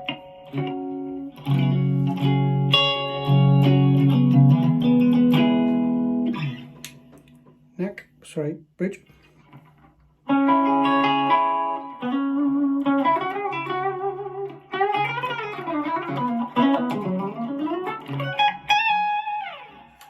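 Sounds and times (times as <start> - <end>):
clean electric guitar: 0.0 - 7.7, 9.1 - 20.0.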